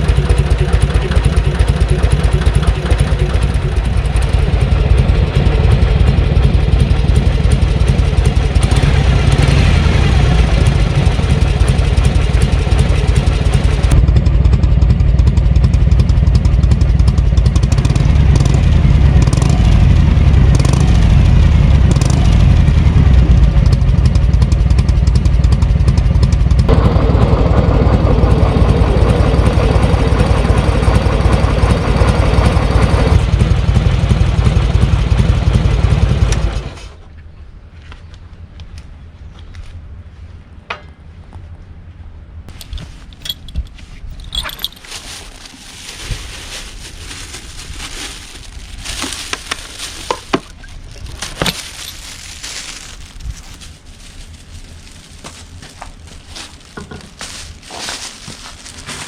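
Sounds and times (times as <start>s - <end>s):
motorcycle engine rumbling: 0.0s - 39.2s, 39.8s - 59.0s.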